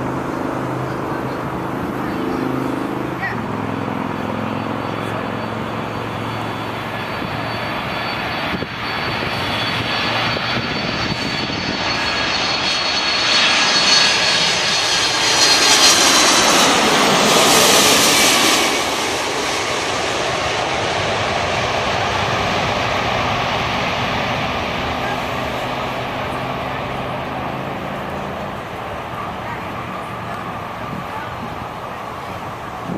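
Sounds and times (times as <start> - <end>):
high jet fan whine: 0.0 - 32.9
jet airliner rumble: 0.0 - 32.9.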